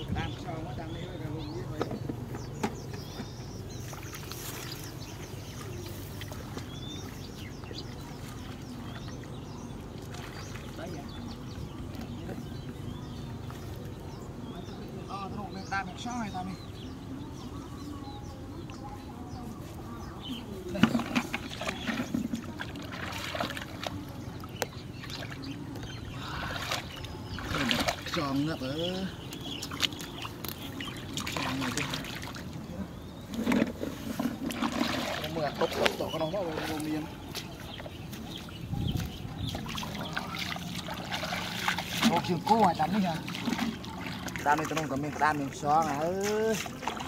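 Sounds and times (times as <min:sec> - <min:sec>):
small birds chirping: 0:00.0 - 0:47.0
feet wading through water: 0:03.0 - 0:14.7, 0:18.6 - 0:47.0.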